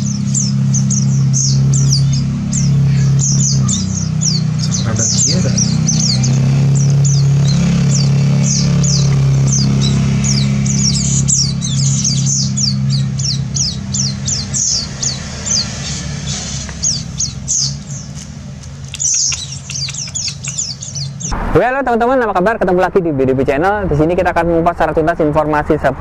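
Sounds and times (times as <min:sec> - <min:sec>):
nestlings begging chirps: 0:00.0 - 0:21.4.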